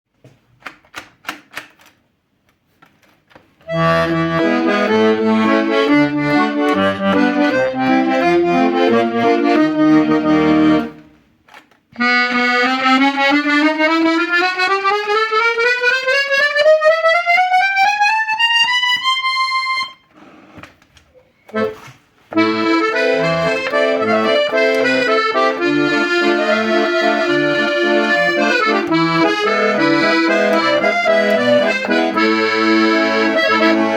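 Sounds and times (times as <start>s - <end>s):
accordion clicks: 0.6s - 33.9s
accordion scale climbing: 2.8s - 33.9s
accordion playing chords and bass: 3.6s - 11.2s, 12.0s - 20.5s, 21.5s - 33.9s.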